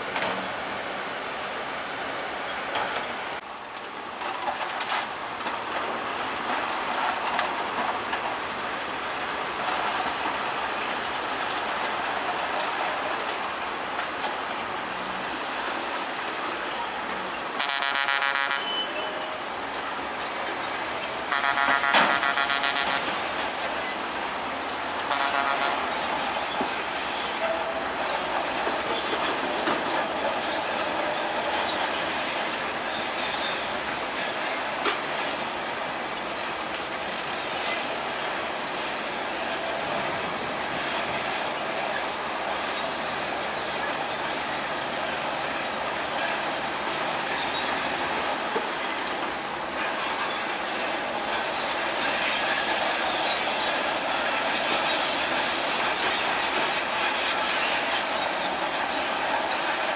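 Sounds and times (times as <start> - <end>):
bulldozer engine and tracks: 0.0 - 59.9.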